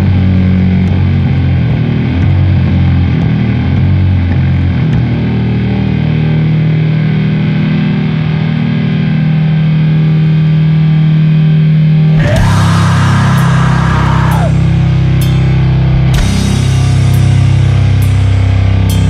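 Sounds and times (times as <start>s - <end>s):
distorted guitars droning: 0.0s - 19.0s.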